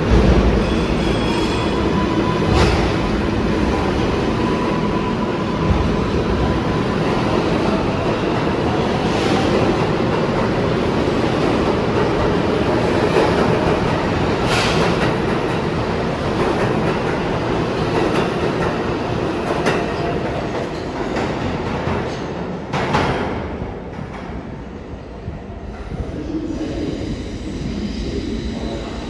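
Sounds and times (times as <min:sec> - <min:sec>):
subway train wheels on rails: 0:00.0 - 0:29.0.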